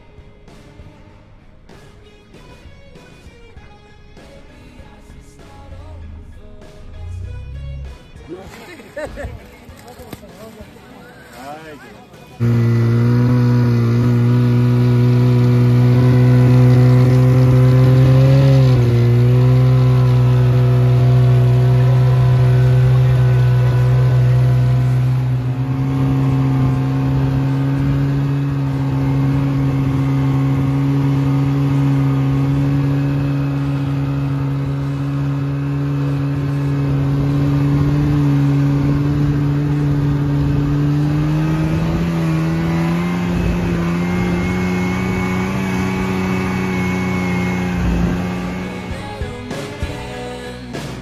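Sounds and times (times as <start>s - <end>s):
snowmobile engine running: 5.5s - 51.0s.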